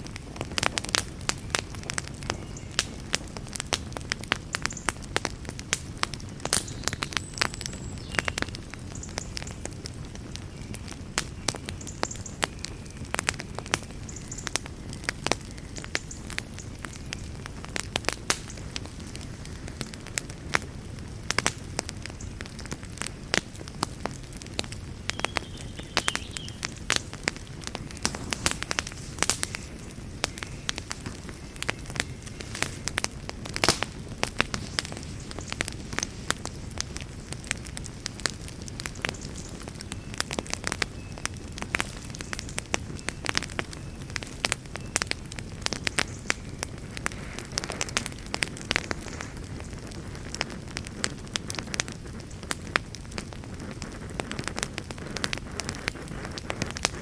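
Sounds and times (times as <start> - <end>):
campfire flames rumbling: 0.0 - 57.0
fire crackling and popping: 0.0 - 57.0.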